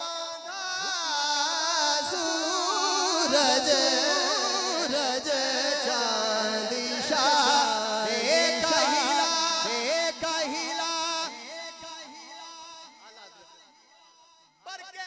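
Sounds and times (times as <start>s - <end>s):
man singing into a microphone: 0.0s - 13.8s.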